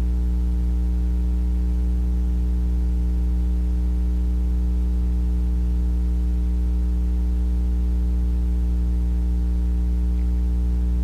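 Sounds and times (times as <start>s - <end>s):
mains hum: 0.0s - 11.0s.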